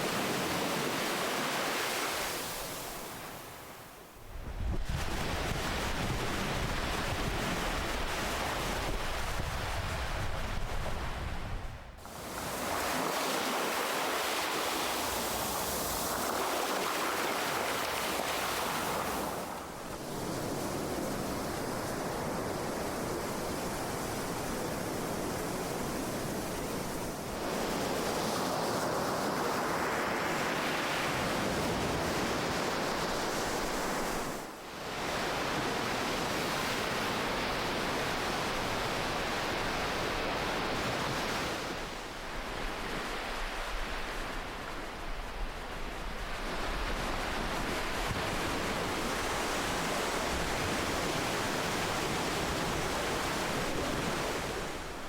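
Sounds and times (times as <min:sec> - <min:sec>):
ocean waves washing in: 0:04.8 - 0:55.0.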